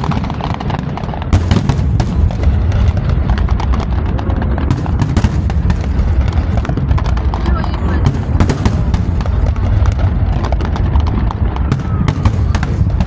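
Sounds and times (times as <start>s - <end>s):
fireworks pops and crackles: 0.0s - 13.0s
low rumble of booms: 0.0s - 13.0s.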